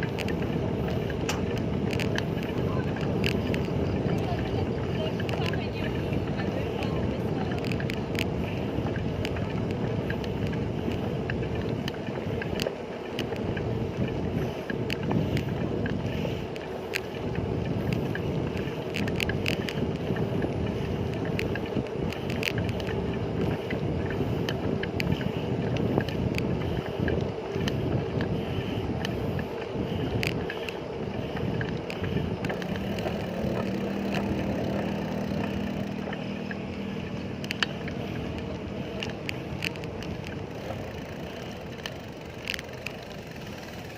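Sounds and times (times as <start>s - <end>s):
bicycle road noise: 0.0s - 43.9s
small clicks and rattles: 0.0s - 43.9s
wind on microphone: 0.0s - 43.9s.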